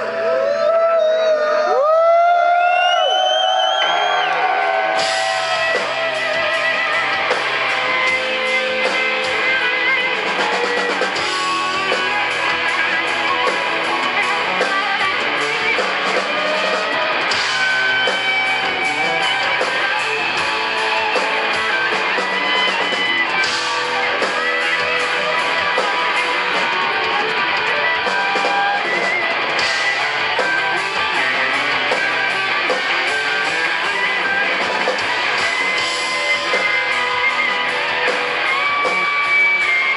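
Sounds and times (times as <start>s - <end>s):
rock band playing: 1.4s - 39.9s.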